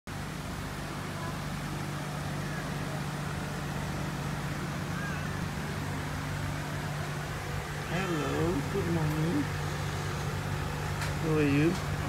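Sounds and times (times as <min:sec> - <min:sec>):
low machine hum: 0:00.1 - 0:12.0.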